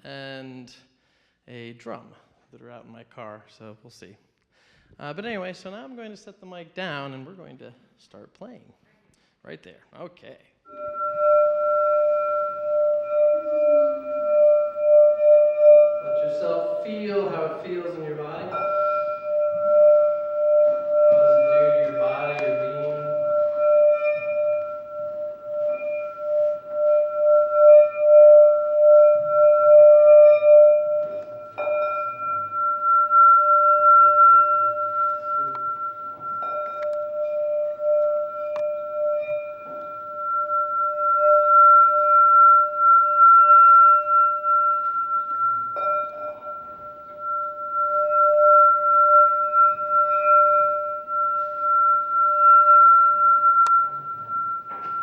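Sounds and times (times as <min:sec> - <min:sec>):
singing bowl ringing: 0:10.7 - 0:55.0.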